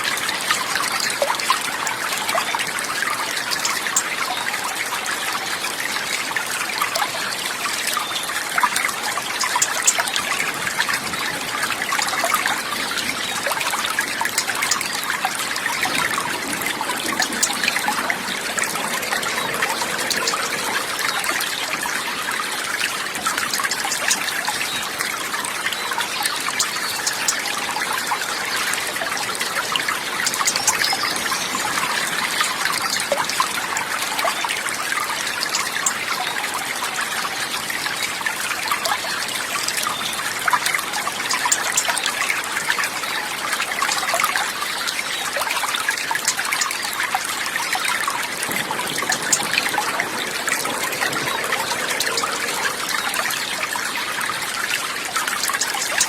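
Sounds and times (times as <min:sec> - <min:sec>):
running water babbling: 0:00.0 - 0:56.0.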